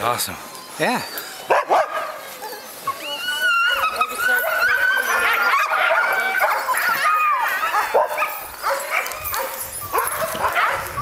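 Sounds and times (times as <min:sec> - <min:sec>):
dogs barking and yipping: 0:00.5 - 0:11.0
dogs whining and howling: 0:00.5 - 0:11.0.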